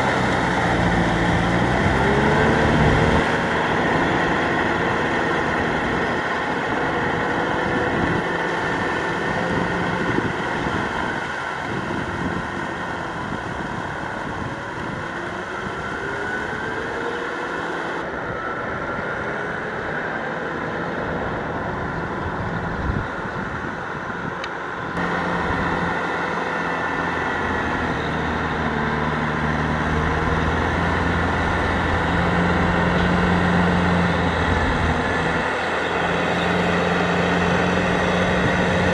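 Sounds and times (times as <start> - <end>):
water and mud churning: 0.0 - 18.9, 25.0 - 38.9
tractor diesel engine: 0.0 - 38.9.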